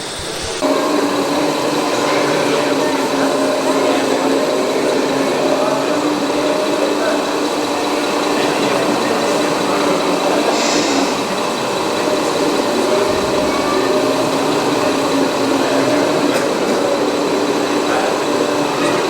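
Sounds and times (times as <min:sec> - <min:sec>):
motors whining: 0:00.0 - 0:19.0.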